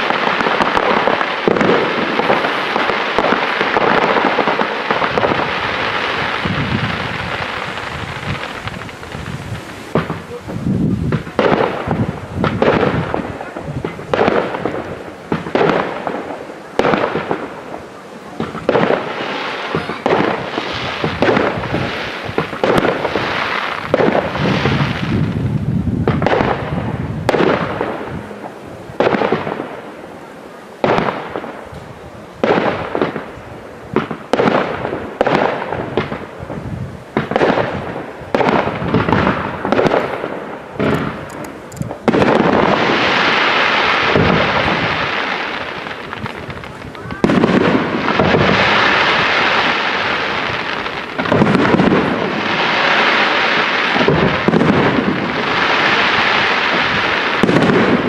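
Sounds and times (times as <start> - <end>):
firework bursts echoing: 0.0 - 58.0.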